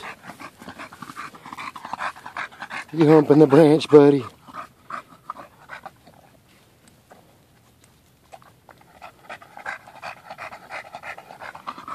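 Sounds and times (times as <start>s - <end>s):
dog panting: 0.0s - 7.2s, 8.2s - 11.9s.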